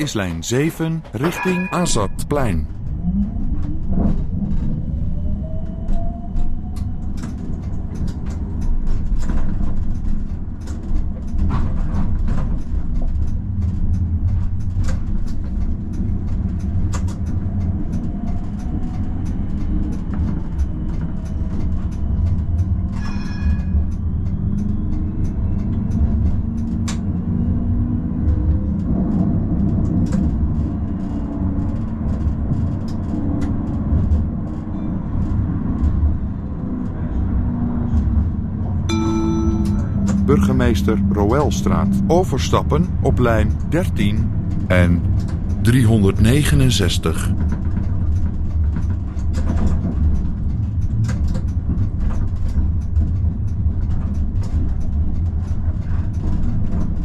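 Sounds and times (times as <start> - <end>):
tram wheels rumbling on track: 0.0 - 57.0.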